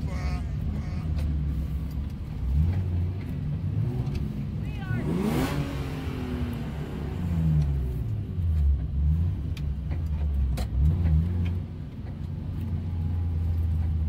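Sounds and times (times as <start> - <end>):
car engine running at low revs: 0.0 - 14.0.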